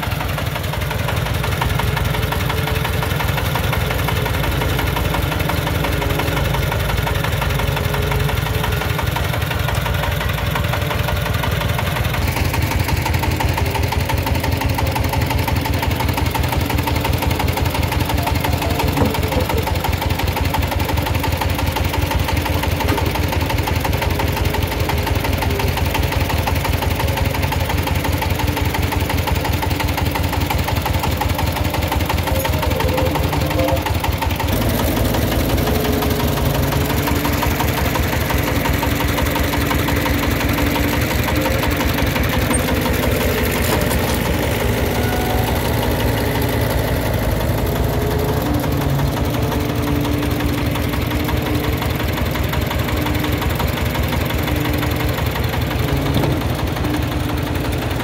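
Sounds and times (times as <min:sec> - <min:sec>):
diesel engine knocking: 0:00.0 - 0:58.0.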